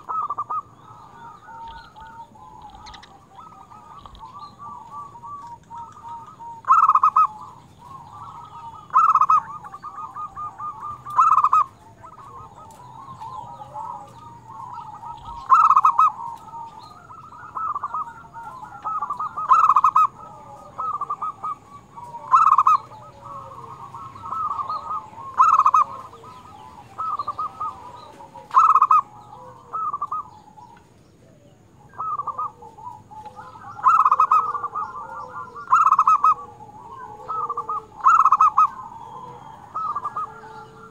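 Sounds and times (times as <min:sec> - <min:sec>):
dove cooing song: 0:00.0 - 0:40.9.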